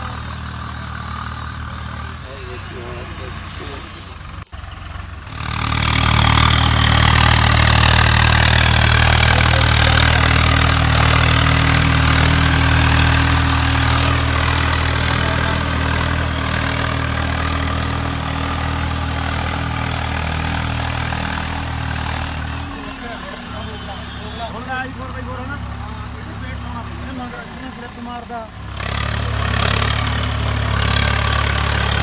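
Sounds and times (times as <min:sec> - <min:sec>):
diesel tractor engine drone: 0:00.0 - 0:32.0.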